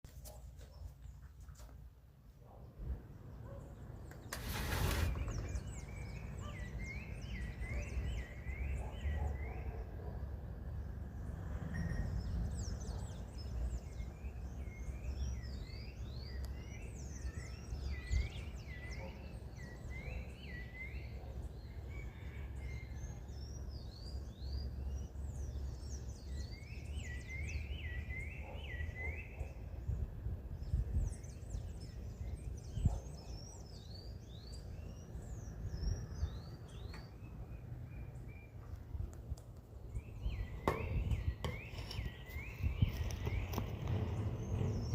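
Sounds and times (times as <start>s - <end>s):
birds chirping: 0.6s - 44.9s.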